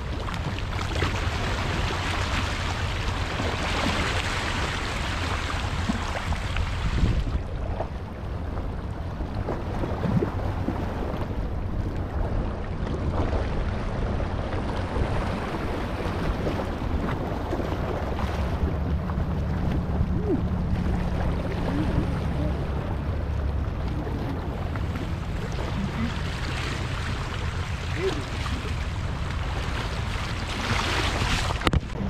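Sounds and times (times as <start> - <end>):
waves lapping on rocks: 0.0 - 32.0
wind on microphone: 0.0 - 32.0.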